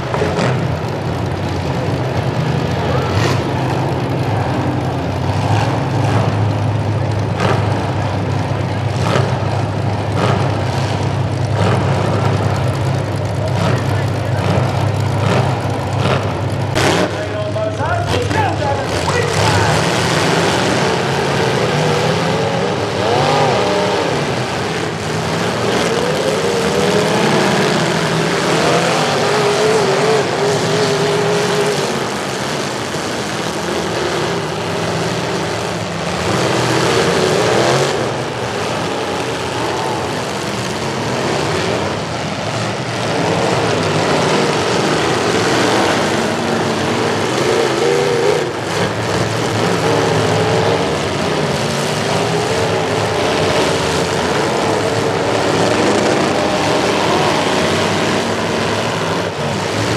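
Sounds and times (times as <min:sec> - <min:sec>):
truck engines revving hard: 0:00.0 - 0:59.9.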